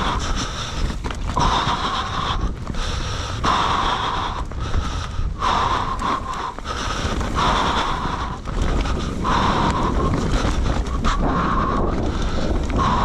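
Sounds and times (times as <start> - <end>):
heavy laboured breathing: 0.0 - 13.0
wind rumble on microphone: 0.0 - 13.0.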